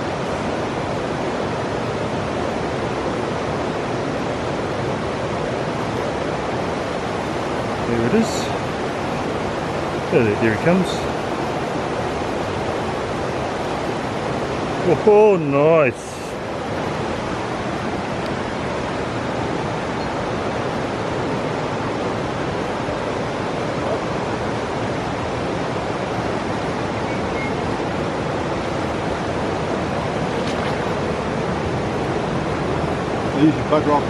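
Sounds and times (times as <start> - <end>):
river current rushing: 0.0 - 34.0.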